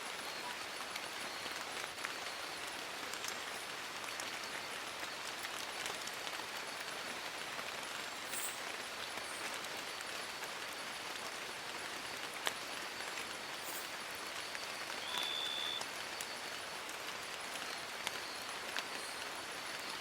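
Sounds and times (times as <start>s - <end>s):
rain falling on leaves: 0.0s - 20.0s.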